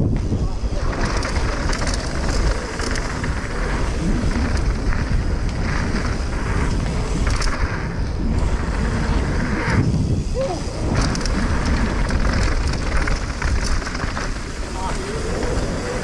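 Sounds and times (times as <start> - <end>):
bike clicks and rattles: 0.0 - 16.0
bike tyres rolling on gravel: 0.0 - 16.0
wind buffeting microphone: 0.0 - 16.0.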